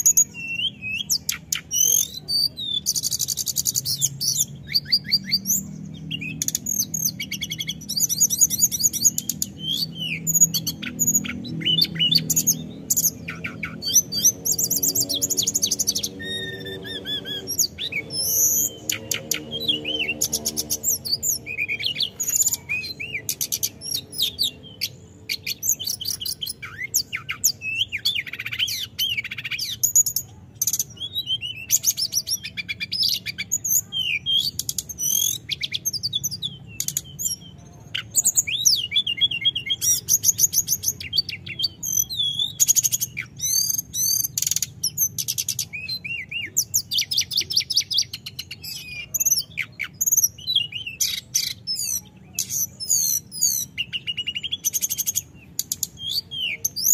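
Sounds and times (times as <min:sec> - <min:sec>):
bird singing whistles and trills: 0:00.0 - 0:56.9.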